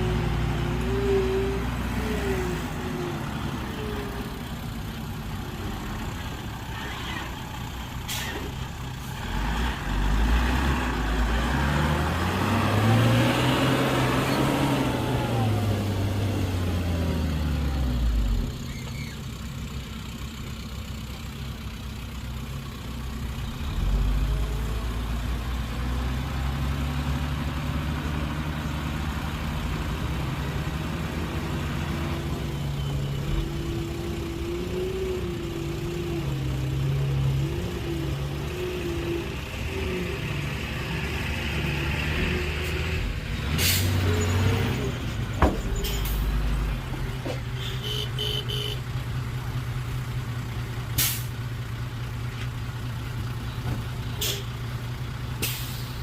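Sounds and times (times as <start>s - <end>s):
heavy diesel engine revving: 0.0s - 6.7s, 8.8s - 19.1s, 23.0s - 51.9s.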